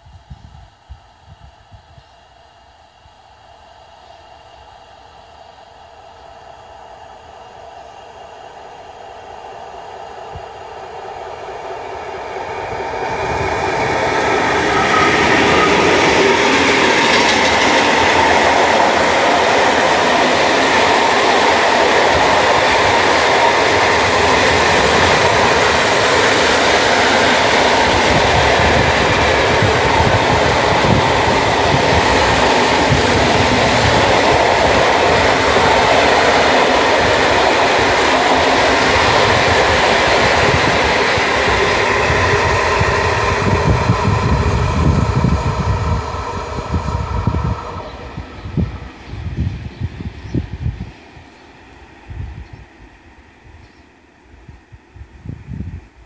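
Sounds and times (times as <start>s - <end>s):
train wheels rumbling on rails: 5.9s - 53.0s.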